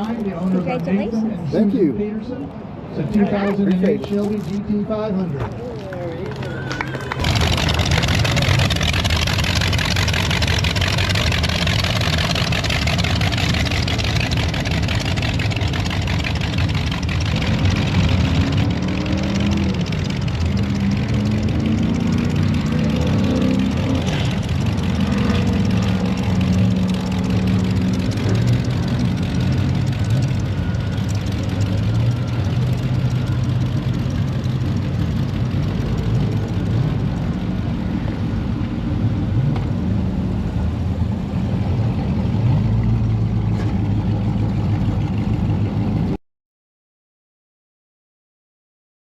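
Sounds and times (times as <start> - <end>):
car engines idling and revving: 0.0 - 46.2.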